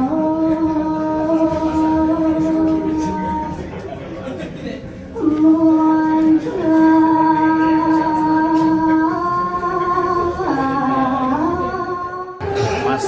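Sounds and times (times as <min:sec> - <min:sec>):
person singing long held notes: 0:00.0 - 0:03.8, 0:05.2 - 0:13.0.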